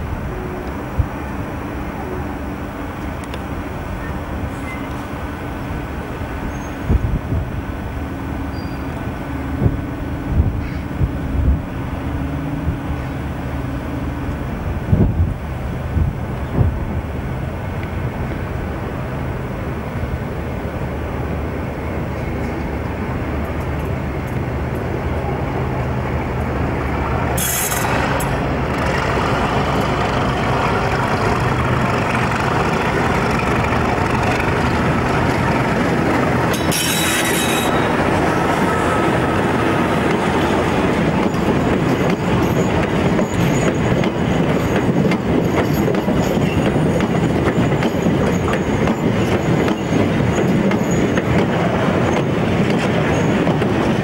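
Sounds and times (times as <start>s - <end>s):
diesel locomotive engine running: 0.0s - 54.0s
wagons rumbling on rails: 0.0s - 54.0s.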